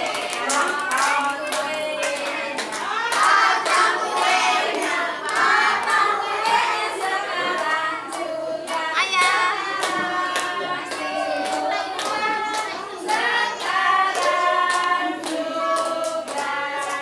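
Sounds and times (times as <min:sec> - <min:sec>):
group singing a celebration song: 0:00.0 - 0:17.0
hand claps: 0:00.0 - 0:17.0.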